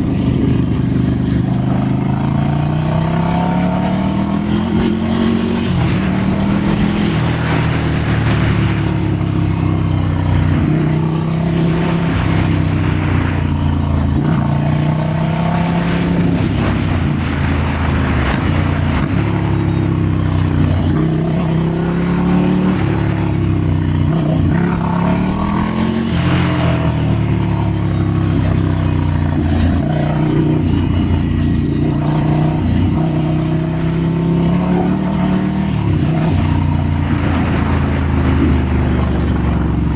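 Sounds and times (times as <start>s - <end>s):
motorcycle engine revving: 0.0s - 39.9s
wind and tyre noise: 0.0s - 39.9s.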